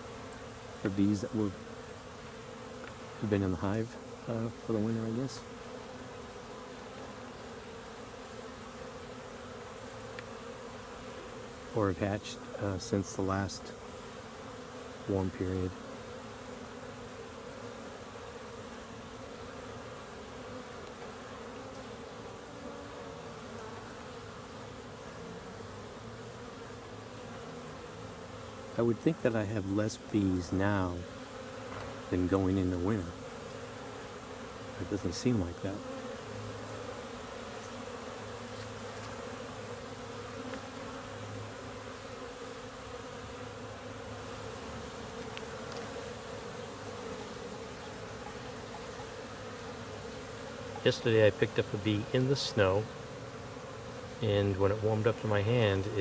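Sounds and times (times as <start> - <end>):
bees buzzing at a hive: 0.0 - 56.0.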